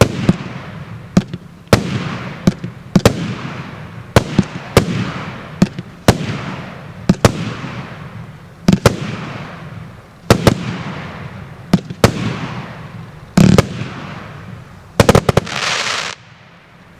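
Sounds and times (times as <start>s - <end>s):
firework bangs: 0.0s - 16.8s
crackling hiss: 0.0s - 16.9s.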